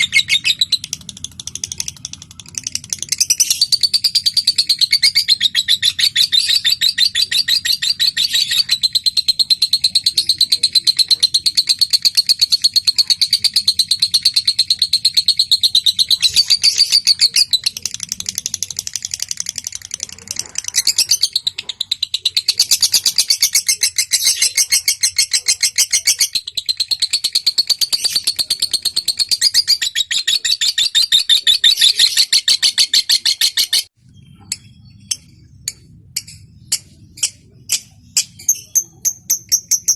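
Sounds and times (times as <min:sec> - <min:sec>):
lovebird chattering trills: 0:00.0 - 0:39.9.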